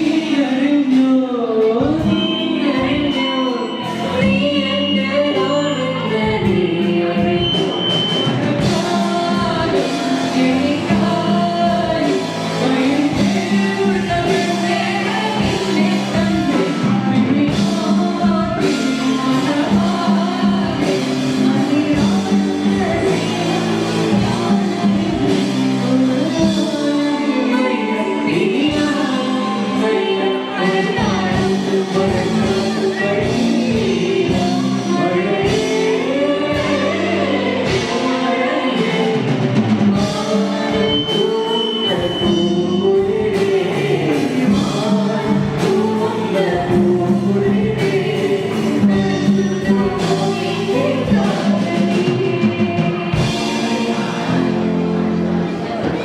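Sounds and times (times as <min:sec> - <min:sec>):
group singing: 0:00.0 - 0:56.0.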